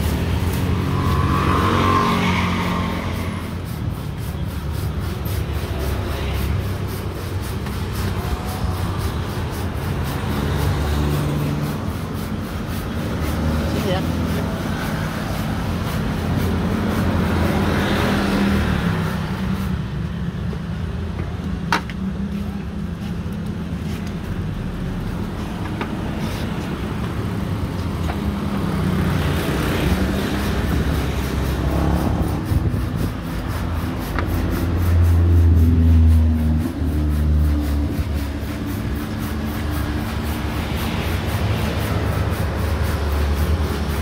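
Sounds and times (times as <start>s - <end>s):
vehicles passing close by: 0.0s - 44.0s.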